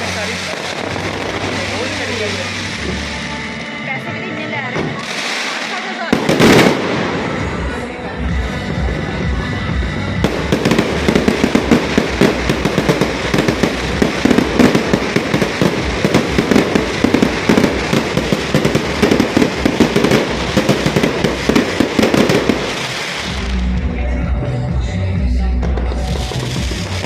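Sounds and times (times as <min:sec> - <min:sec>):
fireworks bangs and crackles: 0:00.0 - 0:23.9, 0:25.6 - 0:27.0.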